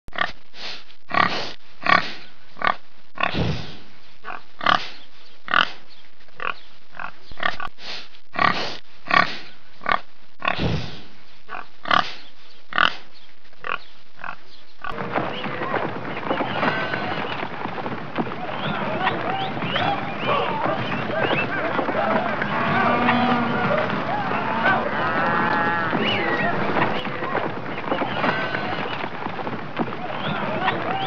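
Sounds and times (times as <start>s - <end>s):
outdoor background: 0.0s - 31.0s.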